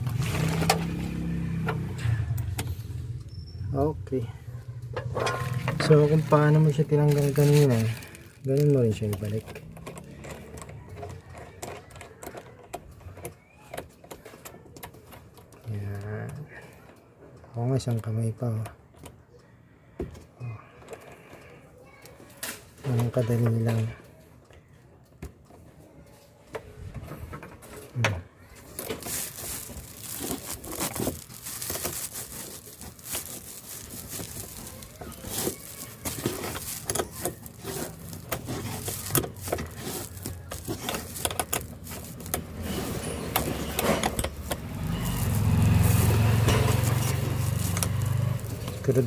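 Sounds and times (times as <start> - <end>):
parts clicking and rattling: 0.0 - 21.6, 26.5 - 49.0.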